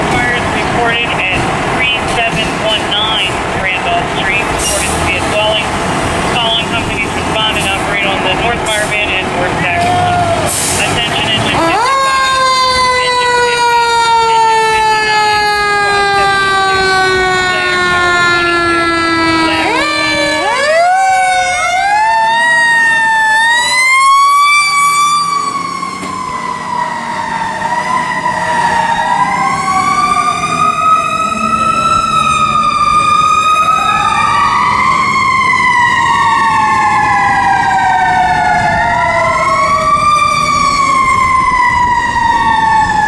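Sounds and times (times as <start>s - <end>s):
diesel engines rumbling: 0.0s - 43.0s
fire truck sirens wailing: 0.0s - 43.0s.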